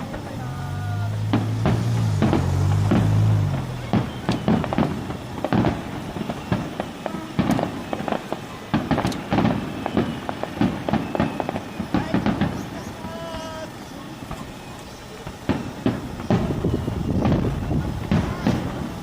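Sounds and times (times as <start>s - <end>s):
fireworks booming and cracking: 0.0s - 19.0s.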